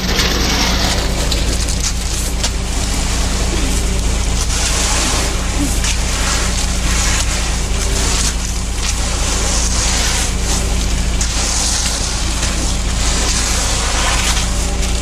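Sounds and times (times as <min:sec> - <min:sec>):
engine droning: 0:00.0 - 0:15.0
rough gritty noise: 0:00.0 - 0:15.0.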